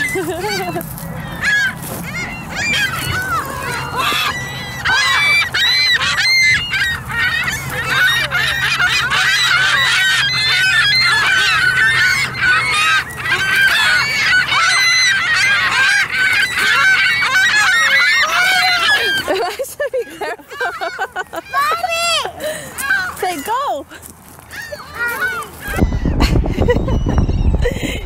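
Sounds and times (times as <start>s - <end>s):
waterfowl calling: 0.0s - 23.8s.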